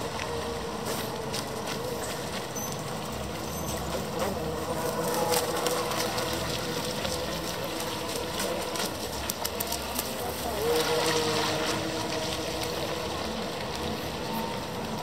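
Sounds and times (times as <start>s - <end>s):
electric boat motors whining: 0.0s - 15.0s.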